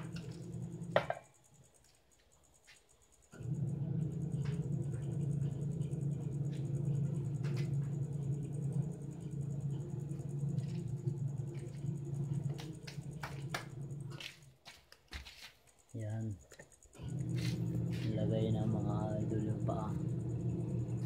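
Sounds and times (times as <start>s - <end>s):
steady low hum: 0.0s - 14.6s, 15.8s - 21.0s.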